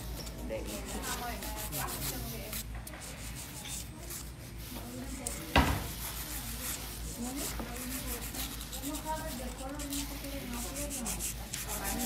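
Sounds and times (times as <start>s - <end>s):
nail file rasping on nails: 0.5s - 12.0s.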